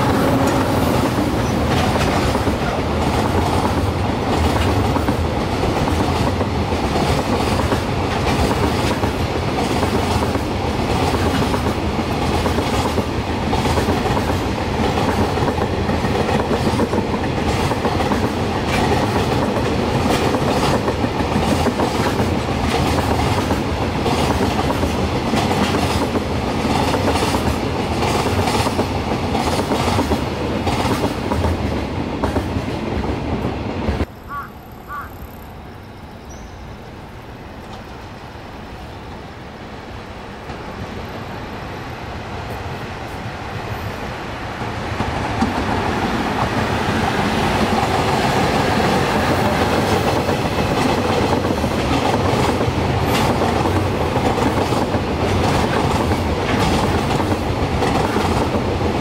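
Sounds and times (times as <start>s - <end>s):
approaching freight train: 0.0s - 59.0s
freight train wagons rumbling: 0.0s - 59.0s.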